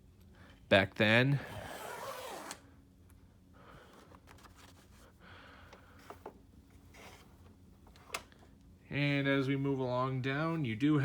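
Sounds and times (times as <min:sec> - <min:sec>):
faint rustling handling noise: 0:01.6 - 0:11.0.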